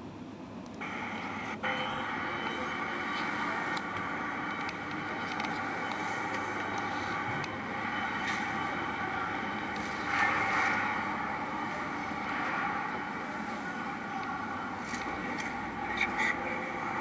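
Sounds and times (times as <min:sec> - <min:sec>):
machinery whirring: 0:00.7 - 0:17.0.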